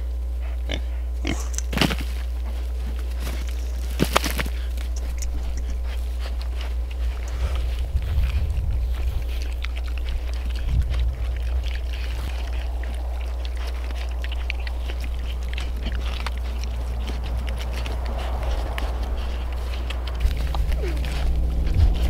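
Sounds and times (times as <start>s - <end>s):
low rumble: 0.0s - 22.0s
piglets crunching and chewing: 0.0s - 22.0s
piglets snuffling: 0.0s - 22.0s.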